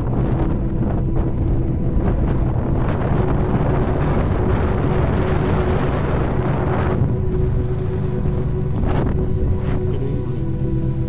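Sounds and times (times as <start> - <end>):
faint held music notes: 0.0 - 11.0
wind buffeting microphone: 0.0 - 11.0.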